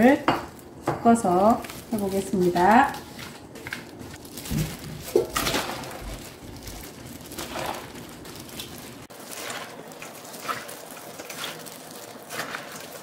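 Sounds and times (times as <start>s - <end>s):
rustling of leaves and gloves: 0.0s - 13.0s
wet squishing of cabbage: 0.0s - 13.0s.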